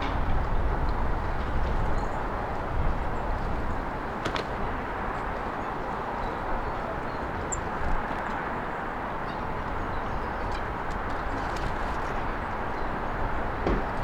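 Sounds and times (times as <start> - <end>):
road traffic hiss and rumble: 0.0 - 14.0.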